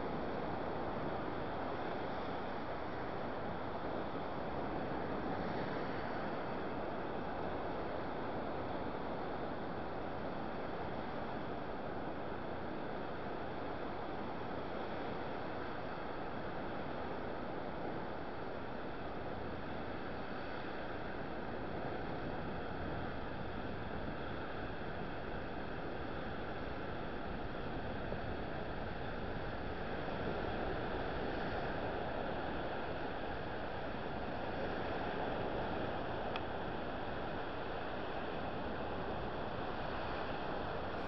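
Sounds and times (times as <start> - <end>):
waves breaking on beach: 0.0 - 41.0.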